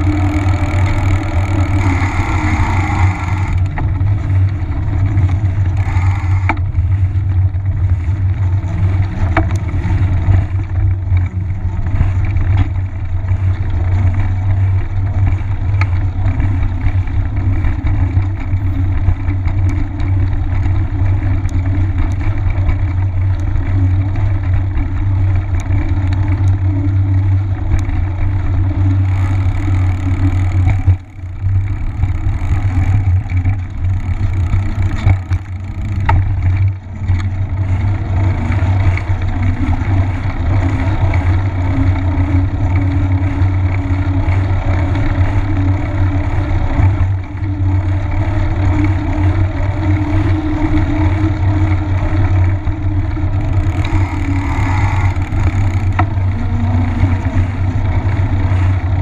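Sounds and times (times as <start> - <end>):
bike tyres rolling on pavement: 0.0 - 59.0
wind buffeting: 0.0 - 59.0.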